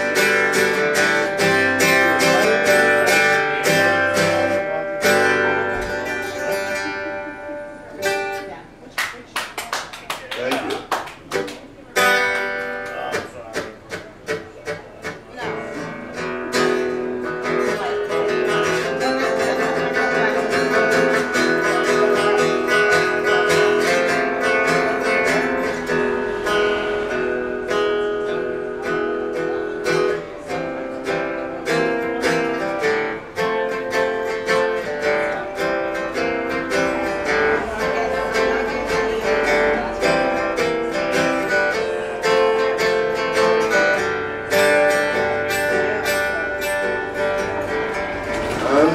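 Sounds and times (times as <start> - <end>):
acoustic guitar playing: 0.0 - 48.9.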